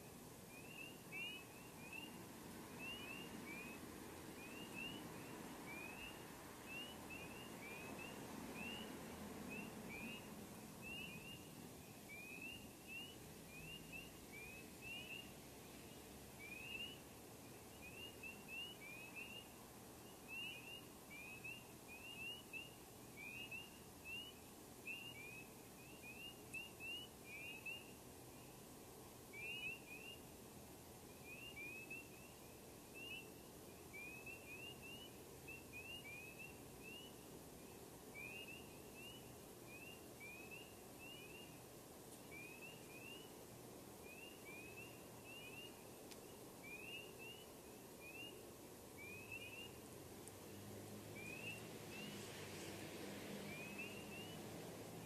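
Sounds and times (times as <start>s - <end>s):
frogs peeping: 0.0s - 55.0s.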